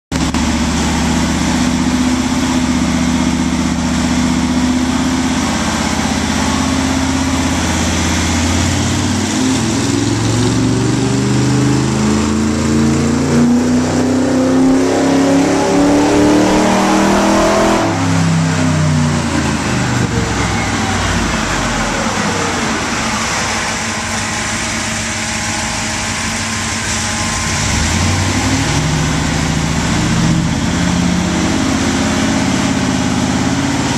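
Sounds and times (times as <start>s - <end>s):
car engine revving on dynamometer: 0.2s - 33.9s.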